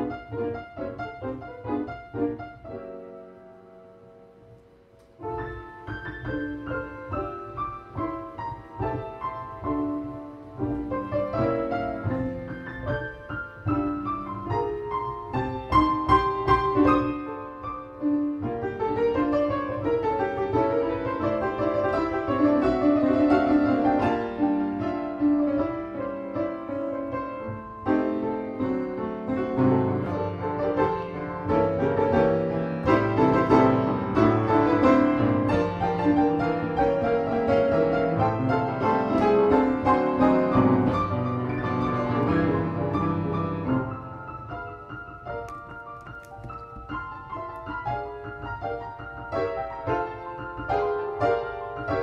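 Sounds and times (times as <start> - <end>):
solo piano piece: 0.0 - 52.0.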